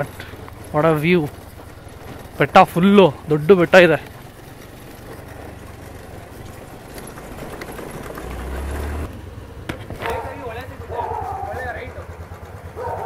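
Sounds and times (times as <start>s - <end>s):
scooter engine running: 0.0s - 13.0s
tyre rumble on stony track: 0.0s - 13.0s.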